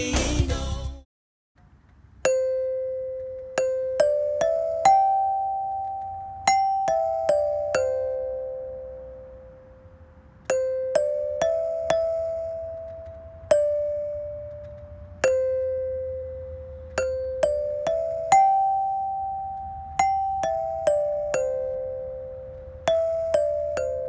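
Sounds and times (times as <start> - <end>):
metallophone notes ringing: 2.2 - 24.0.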